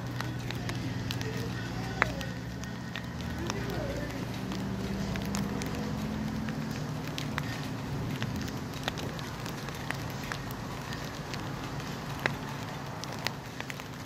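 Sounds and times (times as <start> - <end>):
raindrop ticks: 0.0 - 14.0.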